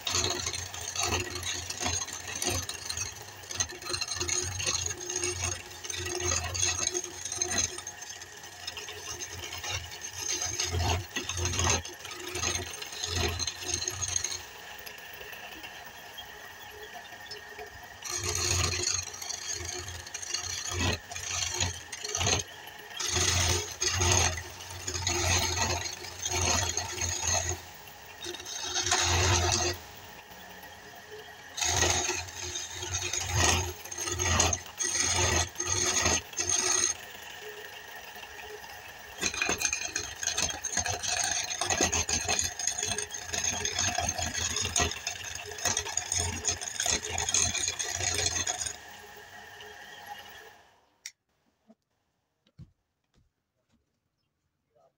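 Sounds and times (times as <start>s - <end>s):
chisel scraping spinning wood: 0.0s - 51.2s
lathe whirring: 0.0s - 51.2s.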